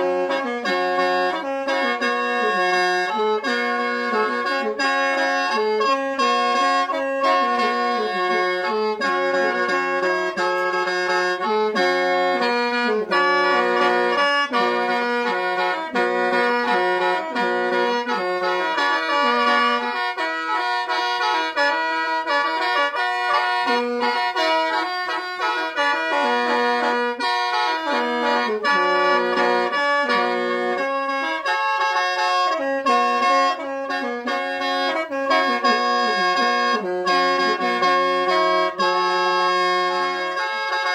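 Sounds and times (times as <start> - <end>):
mouth organ melody over drone: 0.0 - 40.9.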